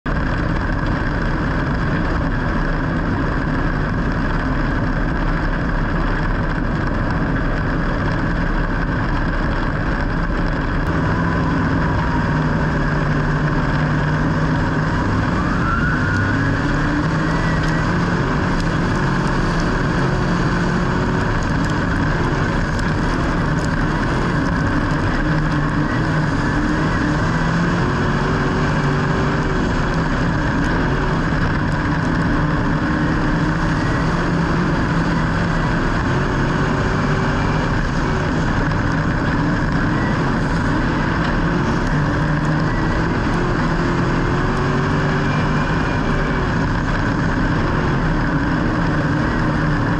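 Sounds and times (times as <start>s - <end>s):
motor vehicle engine running: 0.0s - 49.9s.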